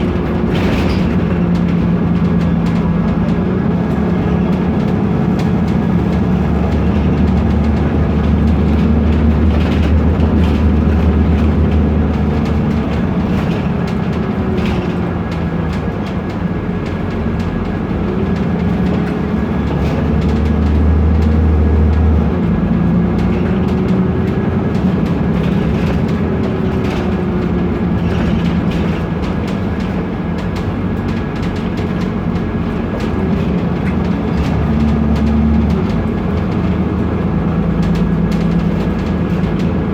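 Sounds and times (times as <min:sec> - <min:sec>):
bus diesel engine: 0:00.0 - 0:39.9
deep rumble: 0:00.0 - 0:39.9
interior parts and window rattling: 0:00.0 - 0:39.9
road rumble: 0:00.0 - 0:39.9.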